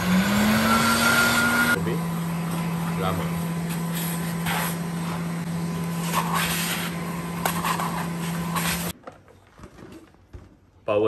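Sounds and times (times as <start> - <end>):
vacuum cleaner motor running: 0.0 - 8.9.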